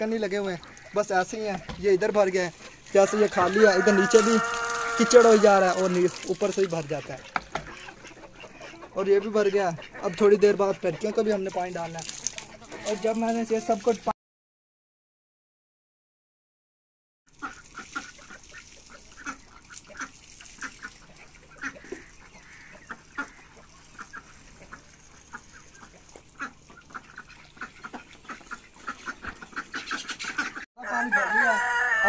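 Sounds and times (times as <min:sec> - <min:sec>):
ducks quacking: 0:00.1 - 0:13.9, 0:17.3 - 0:31.9.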